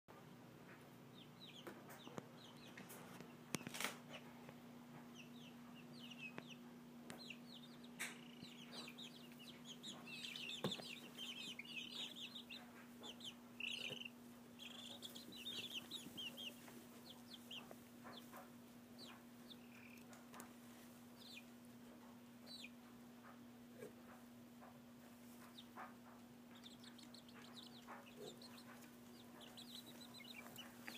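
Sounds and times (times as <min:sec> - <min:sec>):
low steady hum: 0:00.1 - 0:30.9.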